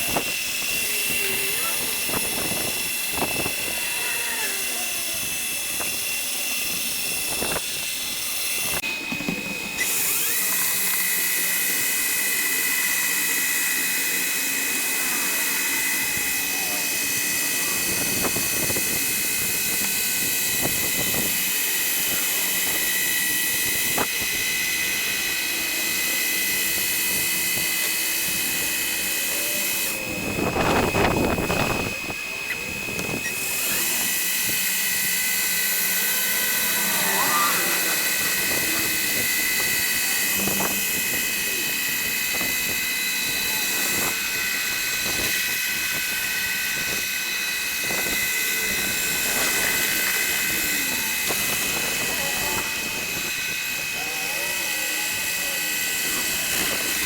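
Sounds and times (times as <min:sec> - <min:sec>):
power sander whining on wood: 0:00.0 - 0:57.0.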